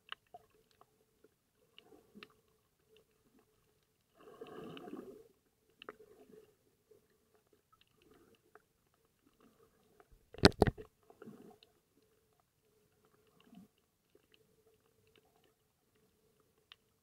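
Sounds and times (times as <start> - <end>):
faint underwater clicking and crackling: 0.0 - 17.0.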